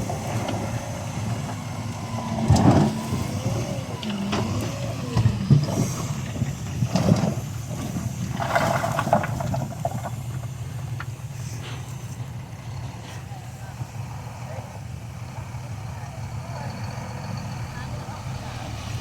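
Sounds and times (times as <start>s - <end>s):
diesel machine engine running: 0.0s - 19.0s.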